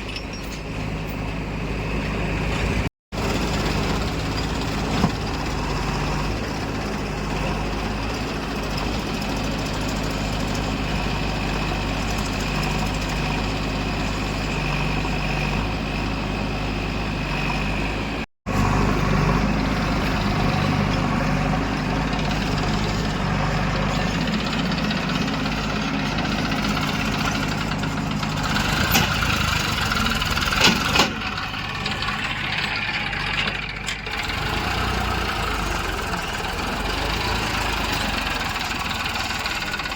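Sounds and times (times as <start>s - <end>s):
heavy diesel engine running: 0.7s - 39.9s.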